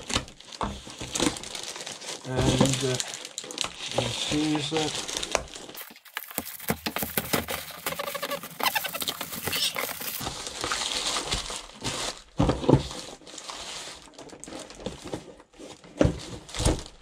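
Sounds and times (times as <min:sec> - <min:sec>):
plastic packaging crinkling: 0:00.0 - 0:15.4.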